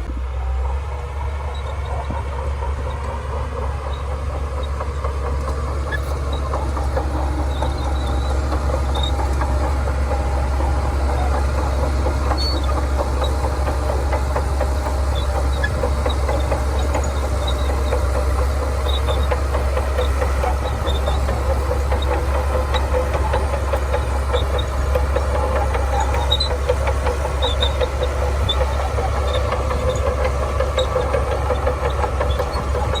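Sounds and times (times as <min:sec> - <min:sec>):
bulldozer diesel engine running: 0:00.0 - 0:33.0
steel tracks clattering: 0:01.6 - 0:33.0.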